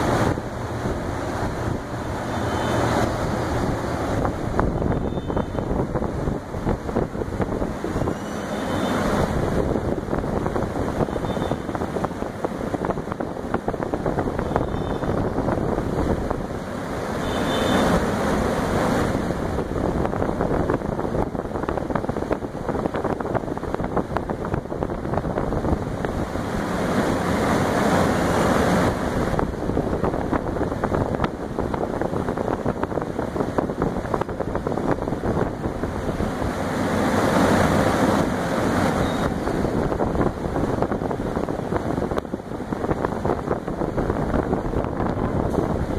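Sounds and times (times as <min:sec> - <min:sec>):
air cooler fan blowing: 0:00.0 - 0:45.9.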